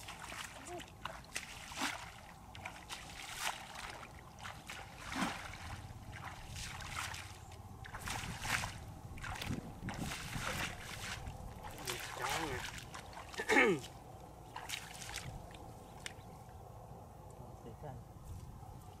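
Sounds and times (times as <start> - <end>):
footsteps wading through water: 0.0 - 16.6.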